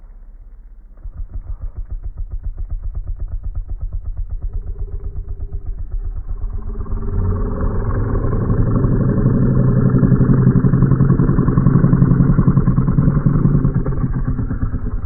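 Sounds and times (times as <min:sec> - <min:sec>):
big cat purring: 0:00.9 - 0:15.0.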